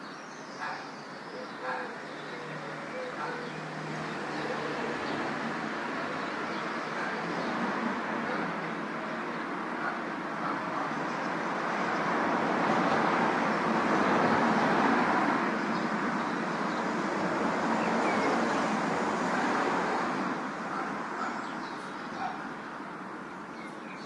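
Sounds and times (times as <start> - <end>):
wind: 0.0 - 24.0
traffic rushing below: 0.6 - 24.0.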